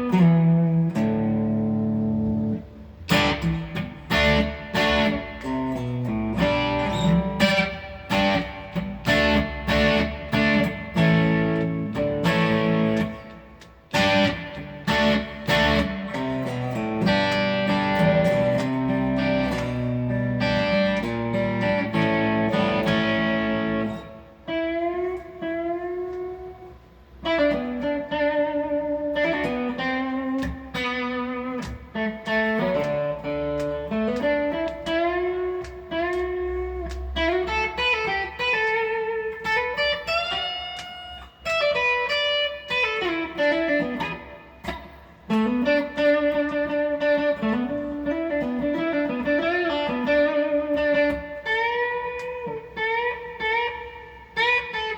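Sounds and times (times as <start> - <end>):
guitar lead melody with bent notes: 0.0 - 54.9.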